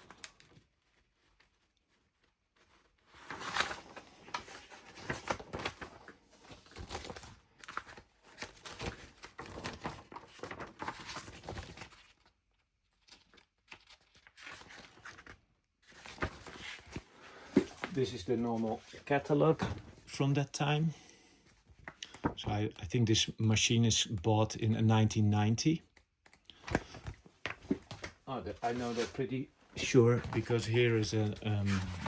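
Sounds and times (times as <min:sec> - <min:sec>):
paper pages rustling: 0:00.0 - 0:20.2, 0:21.5 - 0:22.4, 0:25.9 - 0:32.0.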